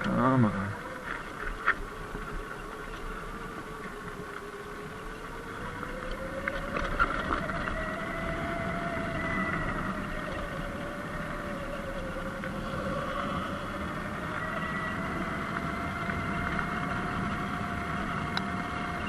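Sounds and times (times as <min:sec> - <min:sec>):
electric motor whine: 0:00.0 - 0:19.0
low wind rumble: 0:00.0 - 0:19.0.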